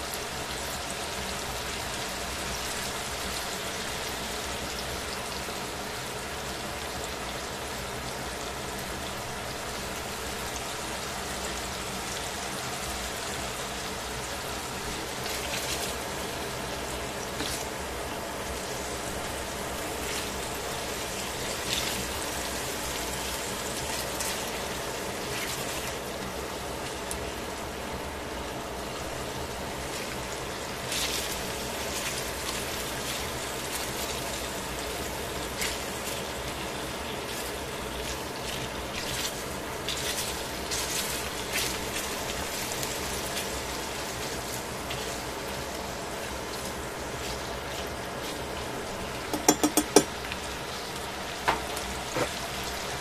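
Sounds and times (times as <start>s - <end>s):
chicken sizzling in oil: 0.0s - 53.0s.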